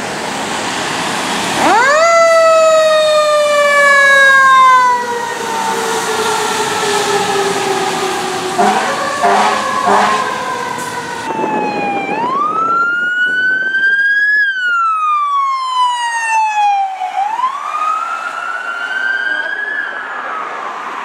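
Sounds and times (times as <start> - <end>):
siren wailing: 1.5 - 21.0.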